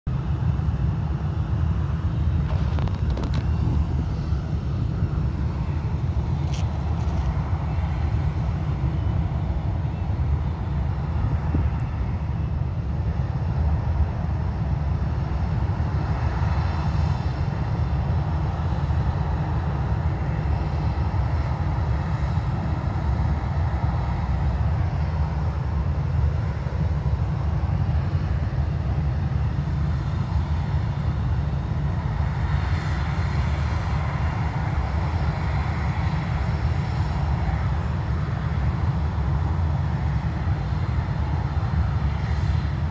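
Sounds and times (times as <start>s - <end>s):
jet engines rumbling and whining: 0.1s - 42.9s.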